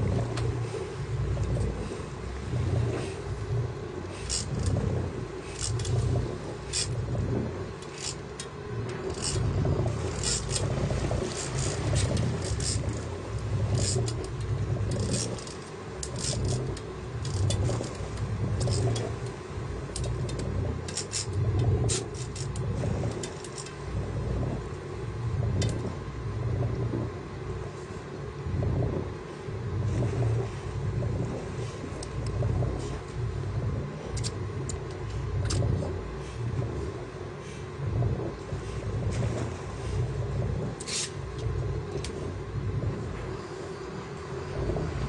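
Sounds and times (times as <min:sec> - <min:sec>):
boat motor running: 0:00.0 - 0:45.0
sea and wind noise: 0:00.0 - 0:45.0.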